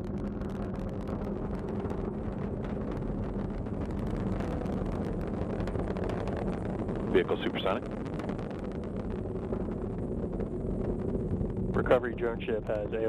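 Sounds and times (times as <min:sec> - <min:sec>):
rocket engines rumbling and crackling: 0:00.0 - 0:13.0.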